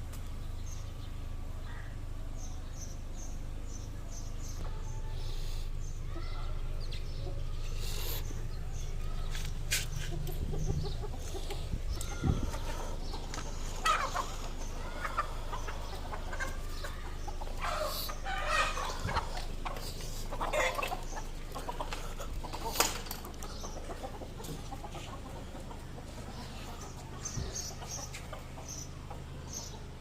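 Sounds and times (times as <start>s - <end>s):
steady low hum: 0.0s - 30.0s
hens clucking: 6.0s - 30.0s.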